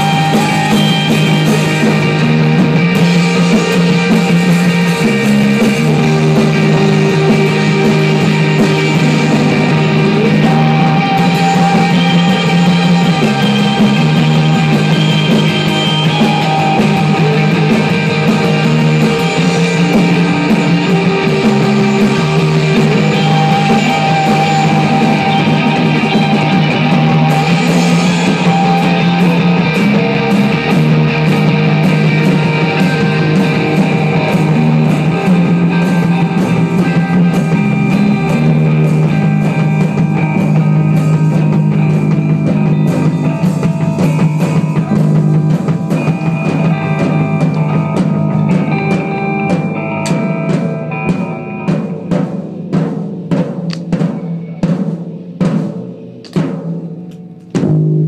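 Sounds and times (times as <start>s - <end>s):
drum and cymbal hits: 0.0s - 58.0s
rock music: 0.0s - 58.0s.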